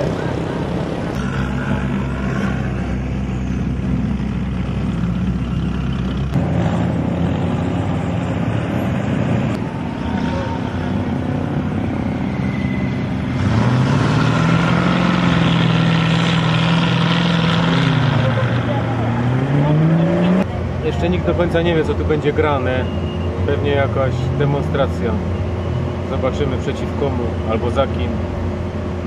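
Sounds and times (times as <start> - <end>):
off-road vehicle engines running: 0.0 - 29.0.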